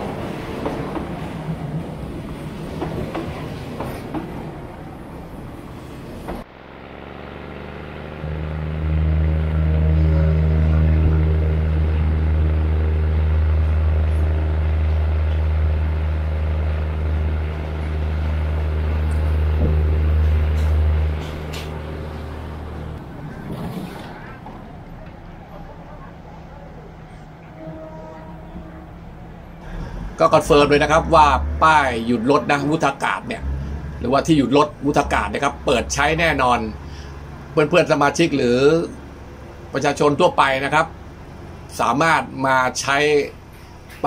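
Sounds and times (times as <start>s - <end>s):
diesel train engine drone: 0.0s - 44.0s.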